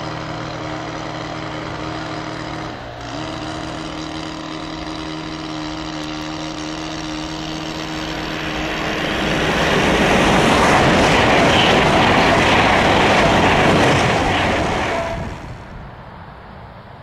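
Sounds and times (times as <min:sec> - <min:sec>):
electric train passing at speed: 0:00.0 - 0:17.0.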